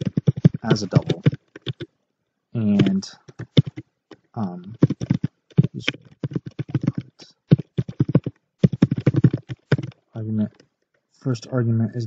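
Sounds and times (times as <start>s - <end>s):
fast typing on computer keyboard: 0.0s - 1.9s, 2.8s - 10.6s.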